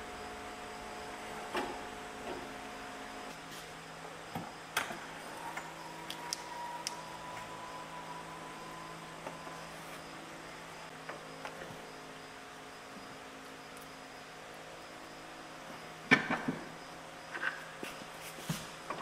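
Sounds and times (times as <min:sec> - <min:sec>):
workshop hum: 0:00.0 - 0:19.0.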